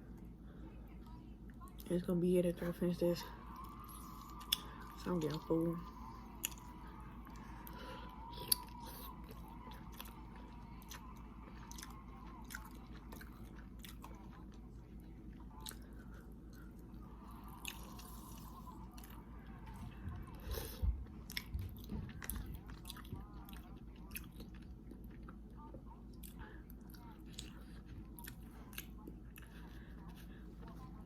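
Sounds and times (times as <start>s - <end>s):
wet chewing and mouth smacks: 3.4s - 30.9s.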